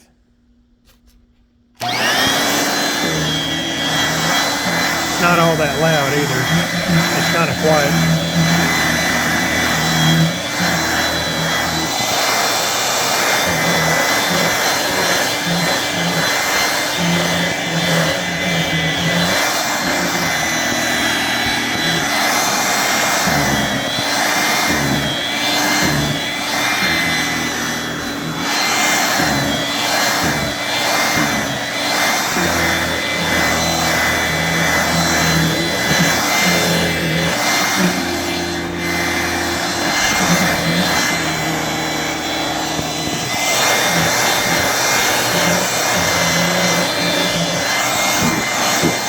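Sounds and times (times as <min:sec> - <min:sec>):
vacuum cleaner motor whine: 0:01.8 - 0:49.0.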